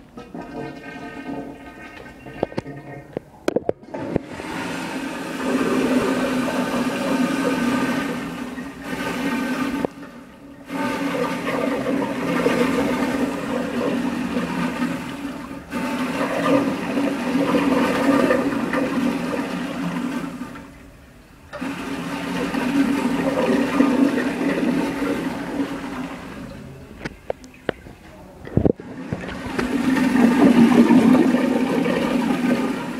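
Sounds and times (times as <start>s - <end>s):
toilet flushing: 0.0s - 28.0s, 28.6s - 32.9s.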